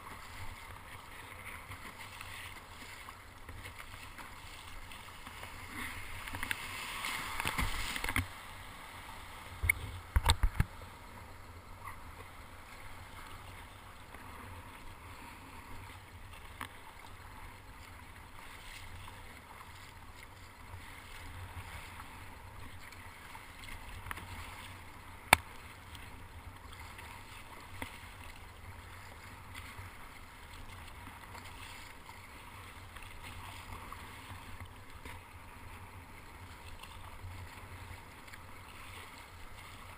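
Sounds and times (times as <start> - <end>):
water washing against hull: 0.0 - 10.8, 11.8 - 39.9
paddle blades splashing: 0.0 - 39.9.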